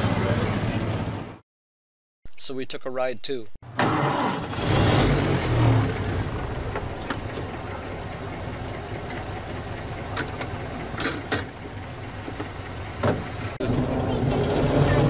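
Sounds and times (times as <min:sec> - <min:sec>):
bus engine rumbling: 0:00.0 - 0:01.4, 0:03.8 - 0:15.0.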